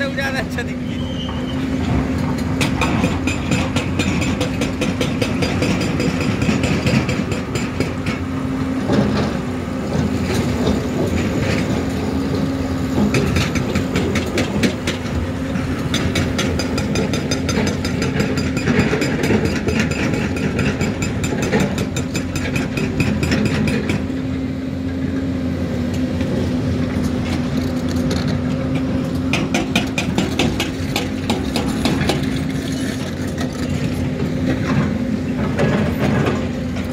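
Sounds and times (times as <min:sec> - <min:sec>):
diesel engines running: 0:00.0 - 0:36.9
knocks and clatter: 0:01.8 - 0:24.2, 0:26.9 - 0:36.9.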